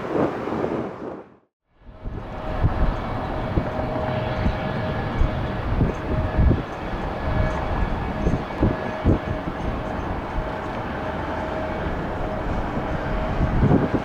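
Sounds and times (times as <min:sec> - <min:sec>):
wind buffeting microphone: 0:00.0 - 0:14.0
jet engines running: 0:01.8 - 0:14.0.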